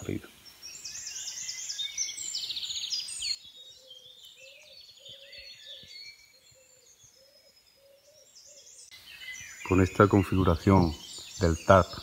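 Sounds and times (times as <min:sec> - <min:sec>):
low soft bird call: 0:00.0 - 0:12.0
songbirds trilling and whistling: 0:00.0 - 0:12.0.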